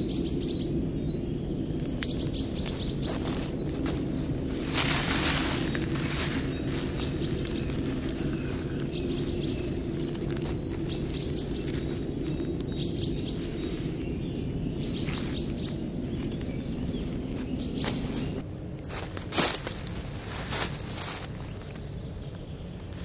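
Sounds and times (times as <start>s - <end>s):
low background hum: 0.0s - 23.0s
songbird chirping: 0.0s - 23.0s.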